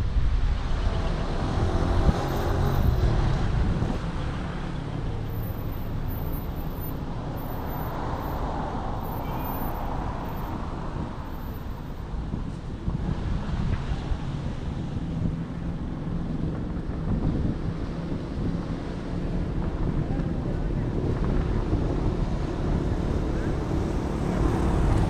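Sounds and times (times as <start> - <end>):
wind buffeting microphone: 0.0 - 5.3, 9.9 - 25.0
car engine and tyre rumble: 0.0 - 25.0.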